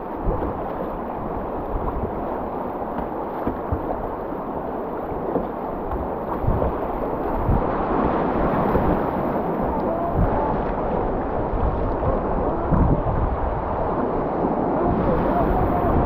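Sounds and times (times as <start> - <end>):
paddle splashes: 0.0 - 16.0
river rushing and splashing: 0.0 - 16.0.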